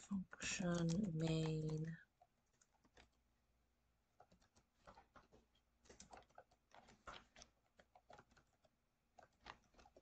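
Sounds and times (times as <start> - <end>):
faint computer keyboard typing: 0.0 - 10.0.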